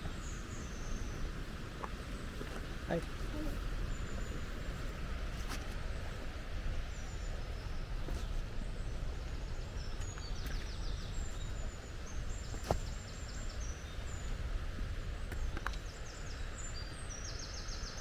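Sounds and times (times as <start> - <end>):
songbirds singing thin notes: 0.0 - 18.0.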